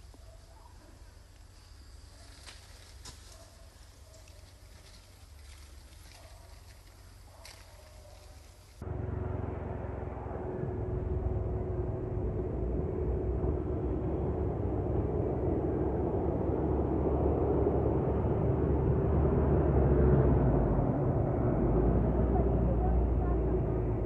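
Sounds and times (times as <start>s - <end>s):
engine drone: 1.0s - 24.0s.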